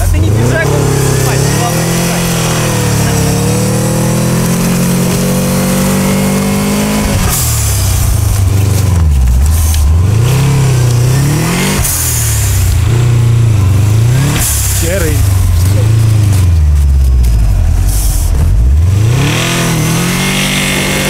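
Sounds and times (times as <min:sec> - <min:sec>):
car engine revving hard: 0:00.0 - 0:21.0.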